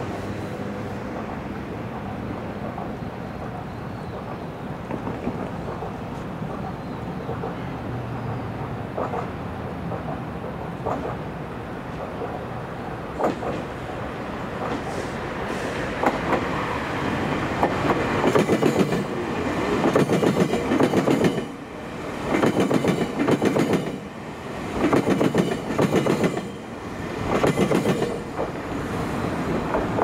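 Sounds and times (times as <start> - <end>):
train wheels clattering over crossing: 1.1 - 12.5, 13.1 - 13.8, 14.5 - 16.7, 17.4 - 30.0.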